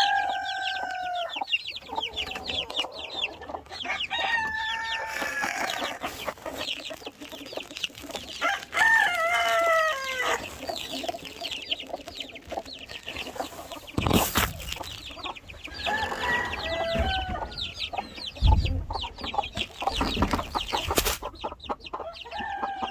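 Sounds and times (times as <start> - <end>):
chicken calling: 0.0 - 22.9
chicks peeping: 0.0 - 22.9.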